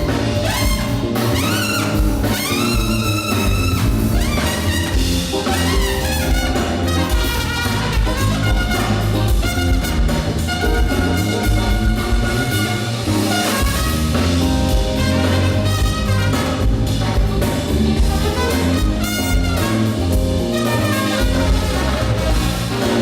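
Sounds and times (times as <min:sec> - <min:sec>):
funk band playing: 0:00.0 - 0:23.0.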